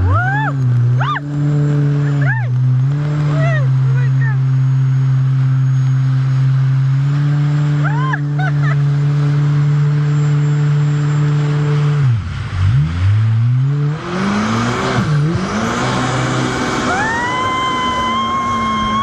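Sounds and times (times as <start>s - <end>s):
jet ski engine: 0.0s - 19.0s.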